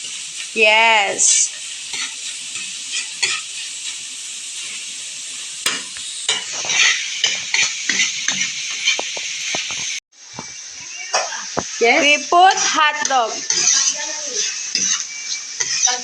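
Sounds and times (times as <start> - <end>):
food sizzling in a pan: 0.0 - 16.0
utensil scraping a pan: 1.5 - 10.6, 11.6 - 16.0.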